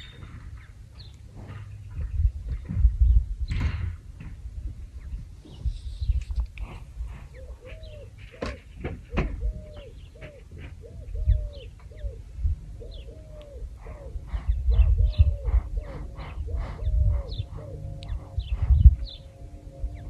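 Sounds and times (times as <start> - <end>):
low rumble: 0.0 - 7.6, 11.1 - 20.0.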